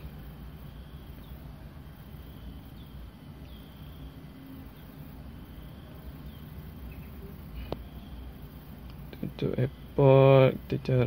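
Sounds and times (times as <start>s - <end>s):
faint high chirps: 0.0s - 10.8s
low steady hum: 0.0s - 11.0s.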